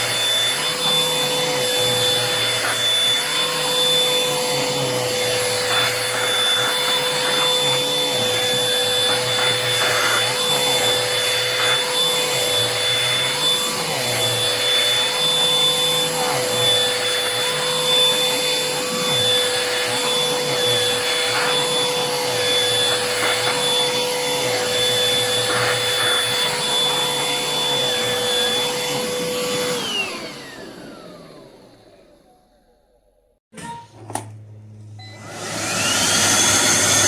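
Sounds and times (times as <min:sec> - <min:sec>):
hand vacuum whining: 0:00.0 - 0:32.6, 0:35.0 - 0:37.0.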